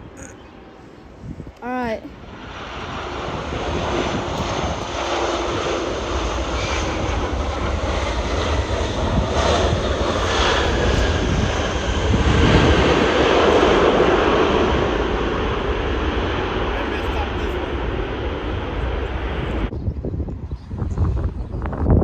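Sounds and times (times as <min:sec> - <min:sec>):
airliner flying overhead: 0:00.0 - 0:22.0.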